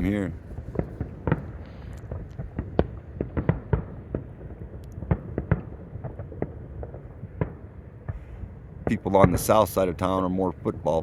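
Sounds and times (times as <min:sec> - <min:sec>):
distant fireworks bangs and pops: 0:00.0 - 0:11.0.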